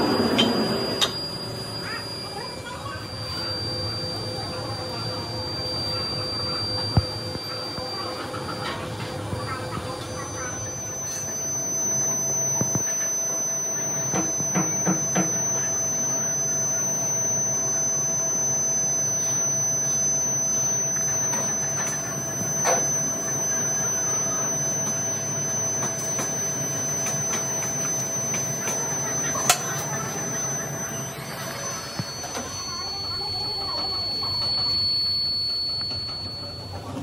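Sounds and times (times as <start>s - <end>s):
foundry machinery drone: 0.0s - 37.0s
thin high whine: 0.0s - 37.0s.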